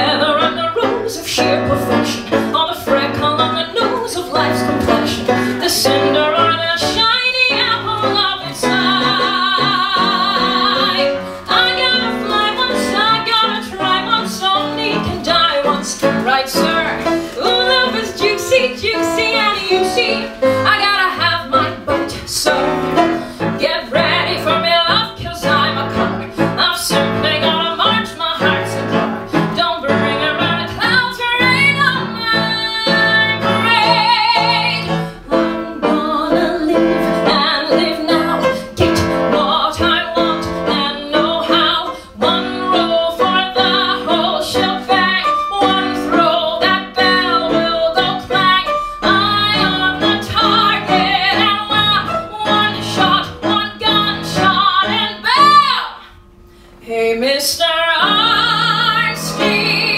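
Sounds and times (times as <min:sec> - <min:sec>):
instrumental accompaniment: 0:00.0 - 0:56.8.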